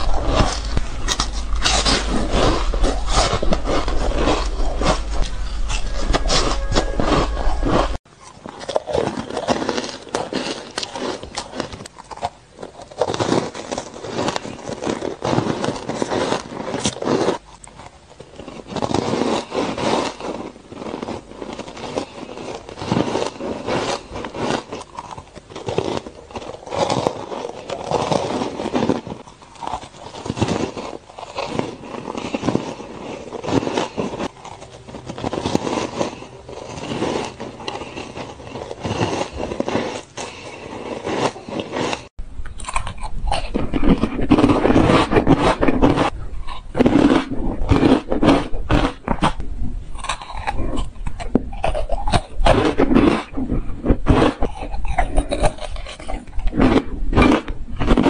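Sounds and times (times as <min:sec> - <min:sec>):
crunching and chewing shaved ice: 0:00.0 - 0:58.0.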